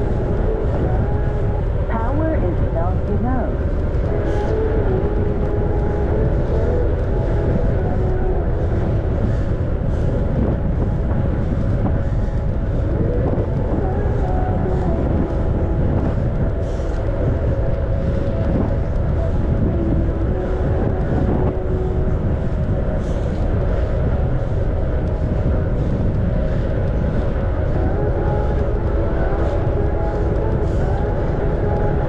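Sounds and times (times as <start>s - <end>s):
bicycle tyre and road noise: 0.0s - 32.0s
faint wavering tones: 0.0s - 32.0s
wind rumble on microphone: 0.0s - 32.0s.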